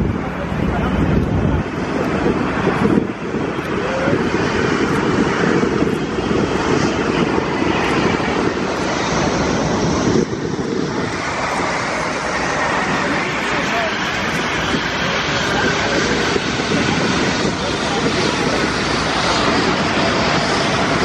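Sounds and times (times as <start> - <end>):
jet airliner landing: 0.0 - 21.0.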